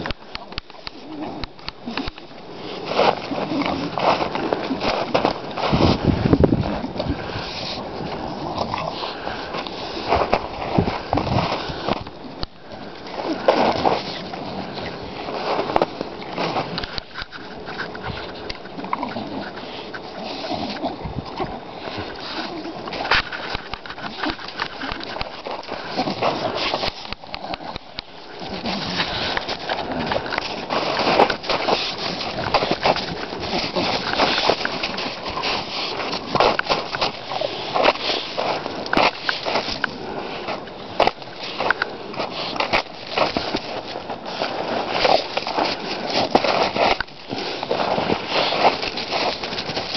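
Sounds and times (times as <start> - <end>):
dog snuffling and breathing: 0.0 - 49.9.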